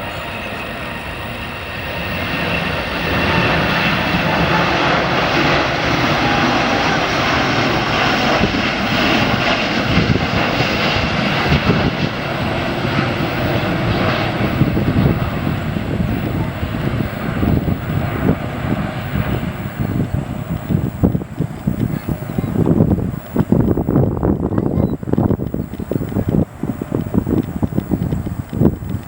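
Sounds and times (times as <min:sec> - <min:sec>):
jet airliner engines roaring: 0:00.0 - 0:29.0.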